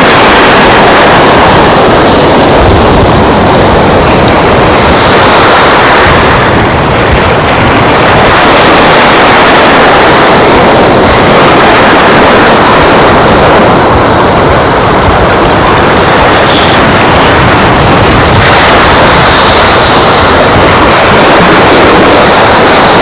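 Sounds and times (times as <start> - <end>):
surf: 0.0 - 23.0
wind buffeting microphone: 0.0 - 23.0
wind rushing: 0.0 - 23.0.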